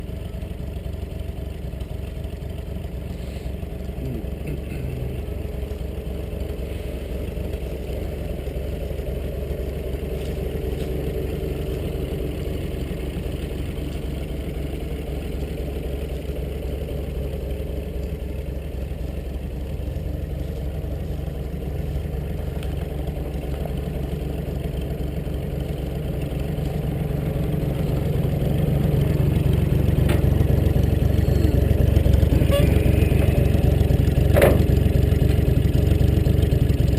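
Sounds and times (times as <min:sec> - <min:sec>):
tractor engine running clattery: 0:00.0 - 0:36.9.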